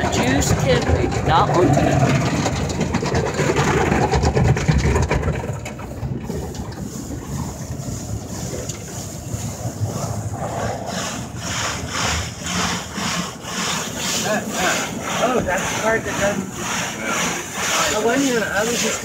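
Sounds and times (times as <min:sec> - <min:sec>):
car wash machinery rushing: 0:00.0 - 0:19.0.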